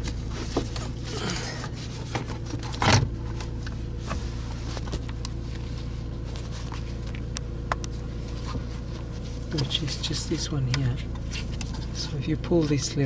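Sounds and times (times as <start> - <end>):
car radio handling clicks and scrapes: 0.0 - 12.9
steady low hum: 0.0 - 13.0.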